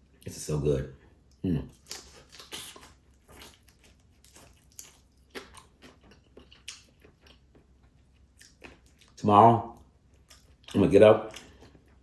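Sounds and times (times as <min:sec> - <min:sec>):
person chewing food: 0:01.1 - 0:12.0.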